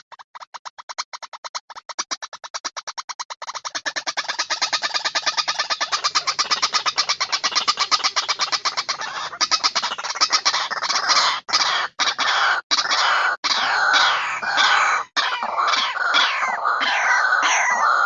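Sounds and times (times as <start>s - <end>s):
waterhen calling: 2.8s - 18.0s.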